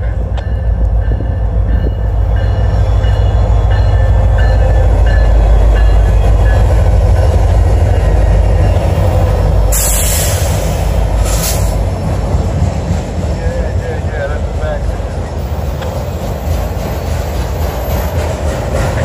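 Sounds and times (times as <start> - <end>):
diesel locomotive engines rumbling: 0.0 - 19.0
wheels clattering on rails: 0.0 - 19.0.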